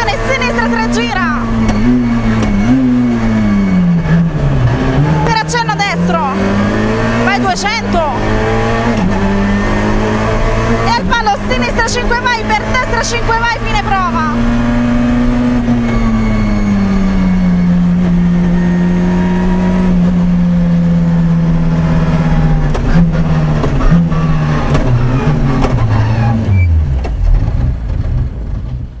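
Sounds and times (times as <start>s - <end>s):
car engine from inside cockpit: 0.0s - 29.0s.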